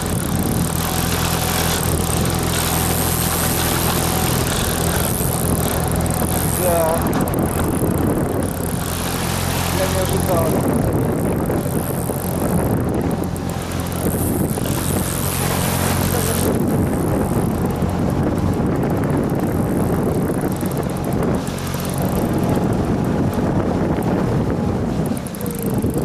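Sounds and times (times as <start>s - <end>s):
outboard motor running: 0.0s - 26.0s
wind buffeting microphone: 0.0s - 26.0s.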